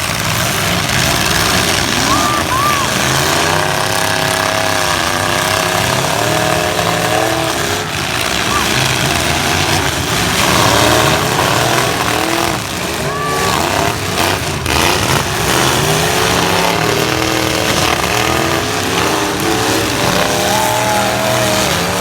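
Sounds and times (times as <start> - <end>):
truck engines revving: 0.0 - 22.0.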